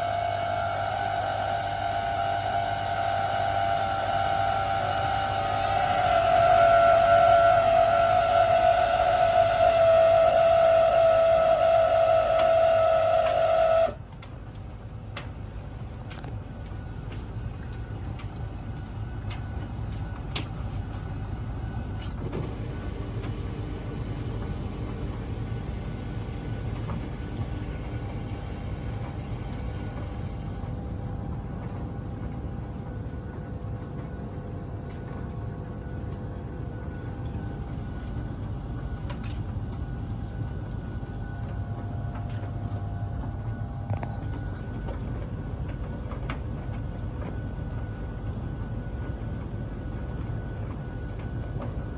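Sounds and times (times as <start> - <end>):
tumble dryer humming: 0.0 - 51.9.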